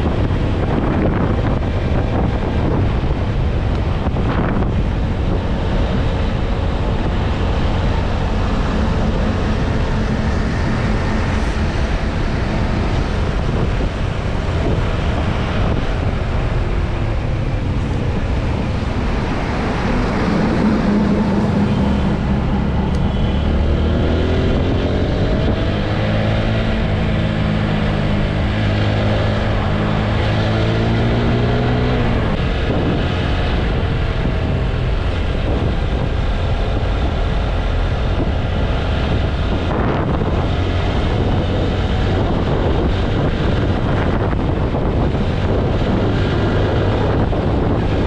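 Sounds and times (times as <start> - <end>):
wind rushing over microphone: 0.0 - 48.0.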